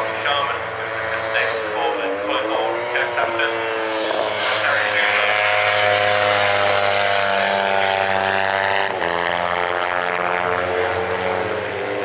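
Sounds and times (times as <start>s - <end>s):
race motorcycles at high revs: 0.0s - 12.0s.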